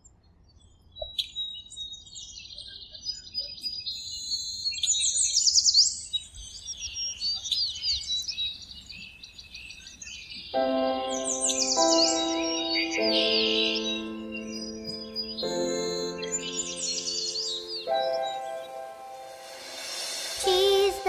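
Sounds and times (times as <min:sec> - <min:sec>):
songbirds chirping and trilling: 0:00.2 - 0:21.0.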